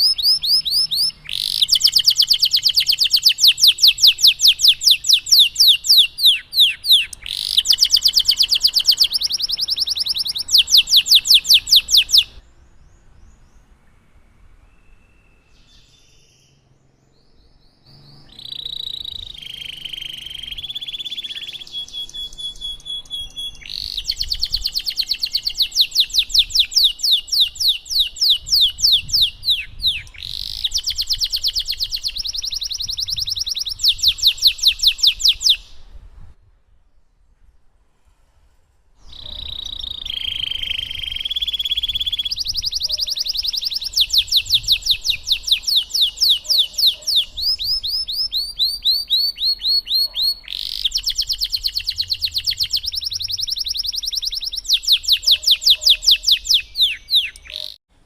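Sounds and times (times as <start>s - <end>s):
canary singing trills: 0.0s - 14.0s, 14.6s - 36.0s, 39.0s - 57.8s.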